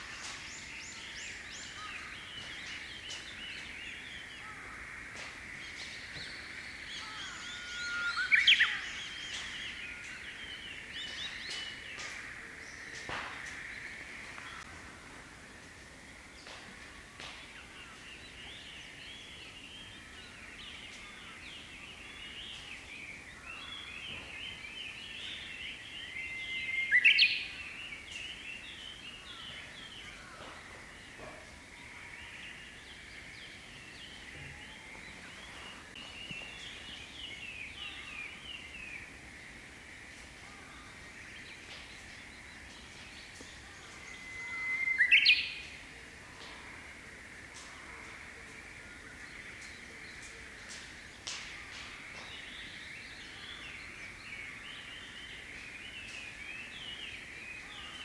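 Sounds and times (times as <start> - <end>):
bush warbler song: 0.0 - 58.0
small birds twittering: 0.0 - 58.0.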